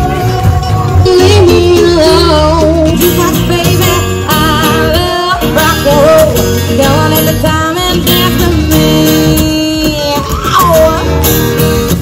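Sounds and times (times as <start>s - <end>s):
person singing: 0.0s - 11.4s
strummed acoustic guitar: 0.0s - 12.0s.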